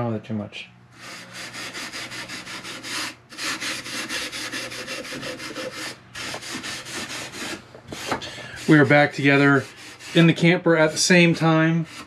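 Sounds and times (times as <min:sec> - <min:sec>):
abrasive pad scratching wood: 0:01.0 - 0:12.0.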